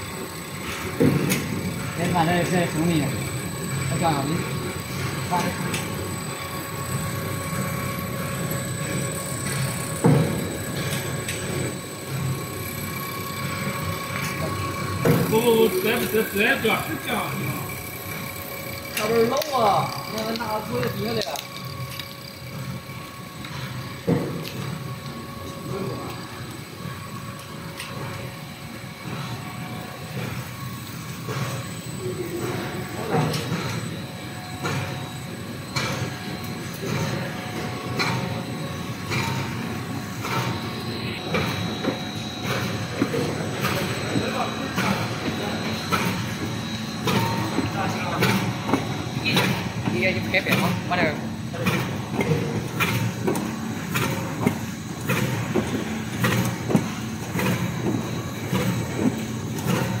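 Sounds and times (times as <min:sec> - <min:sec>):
machinery hum: 0:00.0 - 1:00.0.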